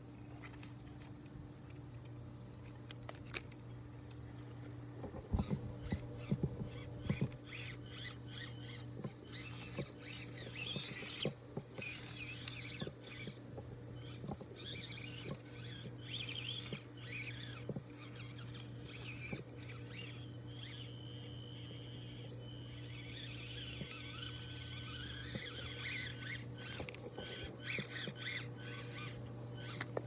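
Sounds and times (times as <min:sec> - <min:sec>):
small motor whining: 0:05.1 - 0:30.0.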